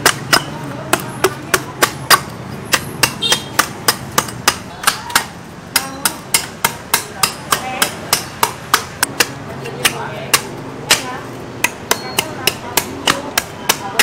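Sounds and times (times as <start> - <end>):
cleaver chopping coconut husk: 0.0 - 14.0.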